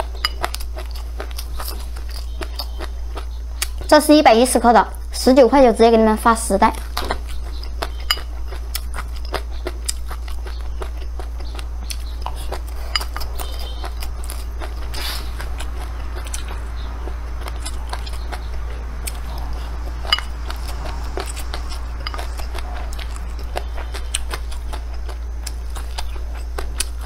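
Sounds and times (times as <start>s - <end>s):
mouth chewing: 0.0s - 4.0s, 6.7s - 27.0s
steady low hum: 0.0s - 27.0s.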